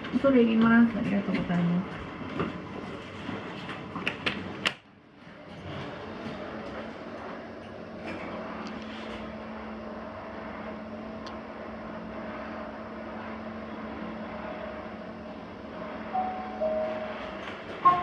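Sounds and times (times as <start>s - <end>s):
elevator hum: 0.0s - 18.0s.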